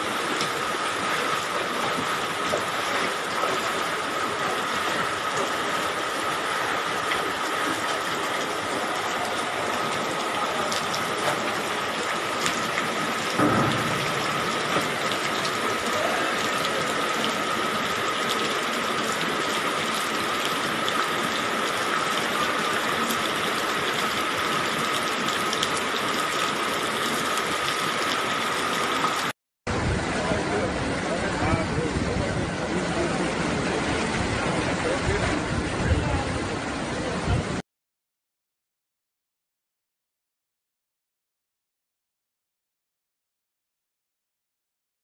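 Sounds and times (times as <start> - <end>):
rushing floodwater: 0.0 - 37.6.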